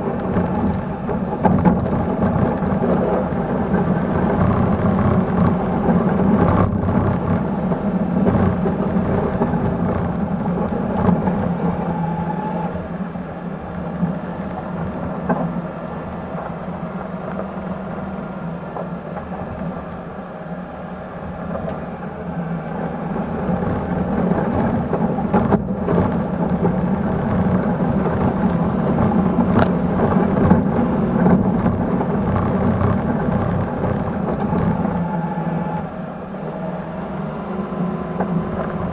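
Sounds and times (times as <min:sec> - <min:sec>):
small truck engine under load: 0:00.0 - 0:38.9
snow and tyre noise: 0:00.0 - 0:38.9.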